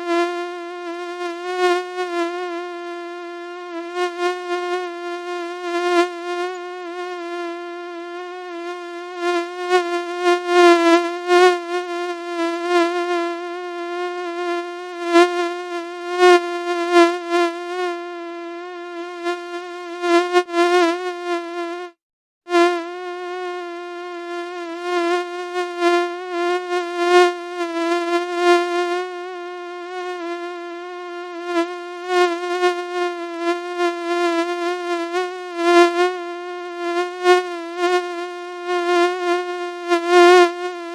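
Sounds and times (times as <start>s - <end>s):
mosquito wing whine: 0.0s - 40.9s.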